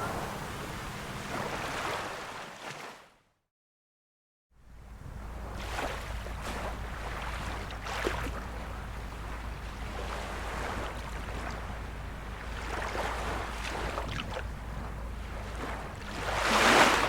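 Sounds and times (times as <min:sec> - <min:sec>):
small waves lapping and splashing: 0:00.0 - 0:03.2, 0:04.7 - 0:17.0.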